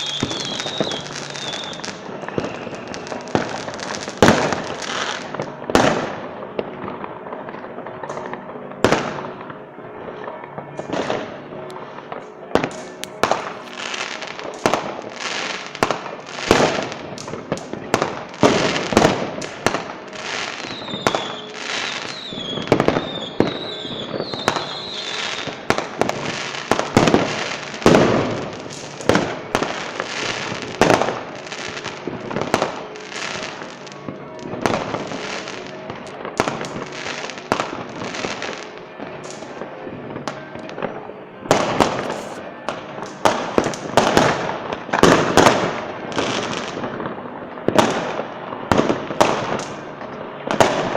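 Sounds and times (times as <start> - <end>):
warbling firework whistle: 0.0 - 6.8, 10.1 - 47.2
fireworks bursting with sharp bangs: 0.0 - 50.9.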